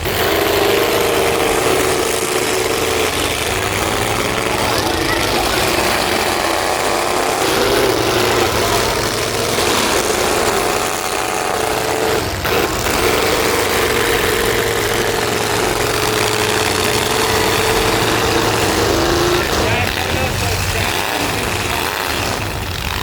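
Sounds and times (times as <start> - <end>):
truck engines running: 0.0 - 23.0.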